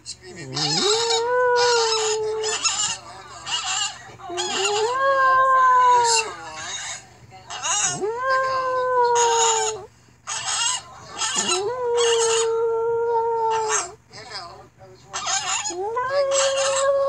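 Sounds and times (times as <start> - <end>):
dog howling: 0.3 - 14.0, 15.2 - 17.0.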